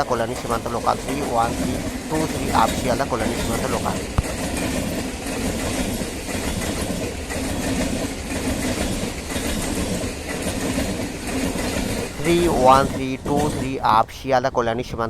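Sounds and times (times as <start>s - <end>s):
train passing: 0.0s - 15.0s
train wheels rattling on track: 0.0s - 15.0s.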